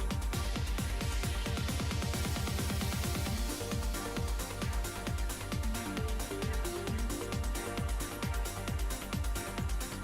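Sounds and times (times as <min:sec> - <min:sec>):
electronic dance music: 0:00.0 - 0:10.0
fast kick drum beat: 0:00.0 - 0:10.0.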